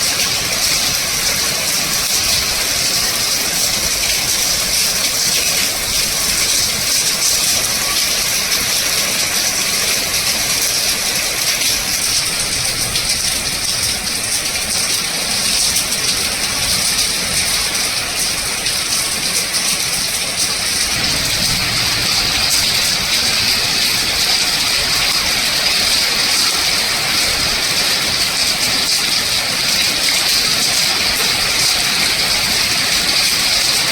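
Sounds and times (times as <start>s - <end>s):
heavy rain: 0.0s - 33.9s
running water: 0.0s - 33.9s.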